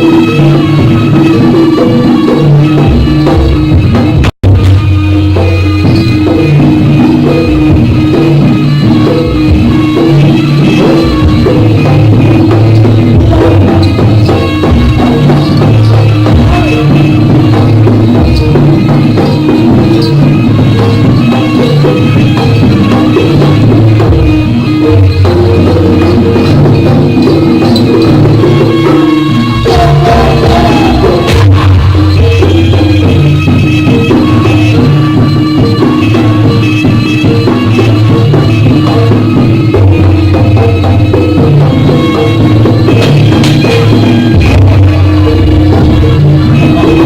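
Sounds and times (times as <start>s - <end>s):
drums playing steady rhythm: 0.0s - 47.0s
repeated pitched notes: 0.0s - 47.0s
sustained pitched instrument tones: 0.0s - 47.0s.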